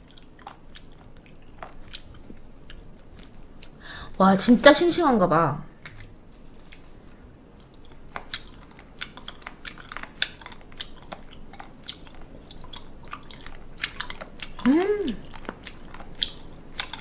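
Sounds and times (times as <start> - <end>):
wet chewing crunches: 0.0 - 3.8, 5.8 - 17.0.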